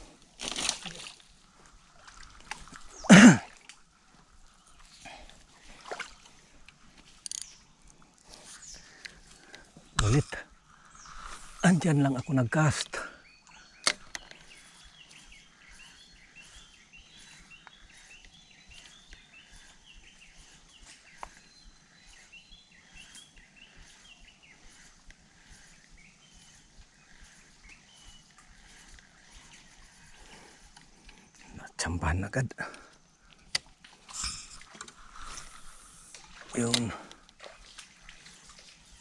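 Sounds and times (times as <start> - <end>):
faint birdsong chirps: 0.8 - 39.0.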